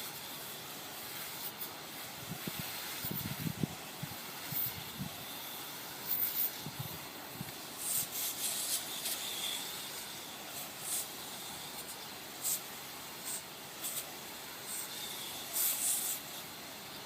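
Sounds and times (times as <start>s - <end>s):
water spraying from a hose: 0.0s - 17.0s.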